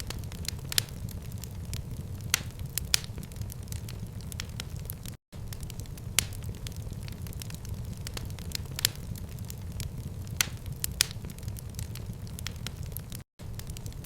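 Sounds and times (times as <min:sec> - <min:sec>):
loud fire pops: 0:00.0 - 0:14.0
wood fire crackling: 0:00.0 - 0:14.0.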